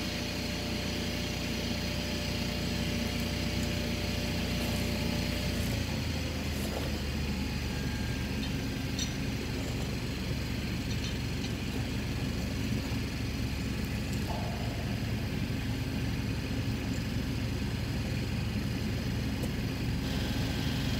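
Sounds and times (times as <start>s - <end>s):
engine droning: 0.0s - 20.9s.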